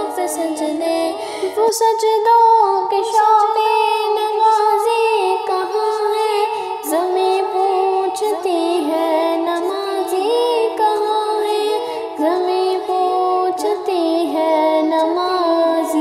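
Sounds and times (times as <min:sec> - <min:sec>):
person singing unaccompanied: 0:00.0 - 0:16.0.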